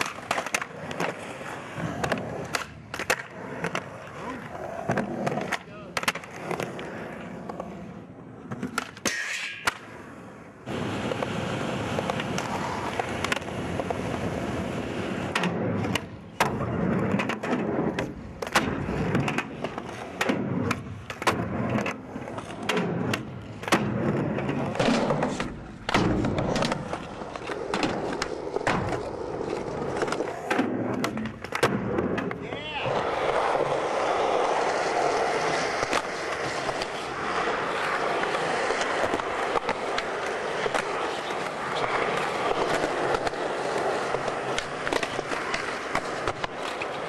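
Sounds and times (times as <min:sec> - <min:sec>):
skateboard clacks: 0:00.0 - 0:47.0
skateboard wheels rolling on concrete: 0:00.0 - 0:47.0.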